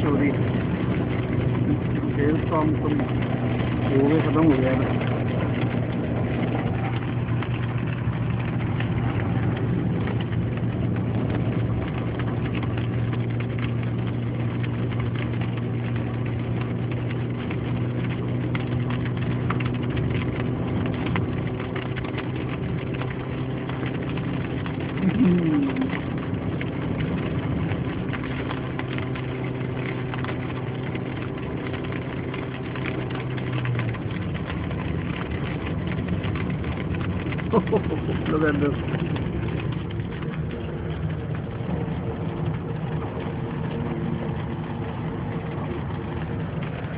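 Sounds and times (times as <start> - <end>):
car engine running: 0.0 - 46.9.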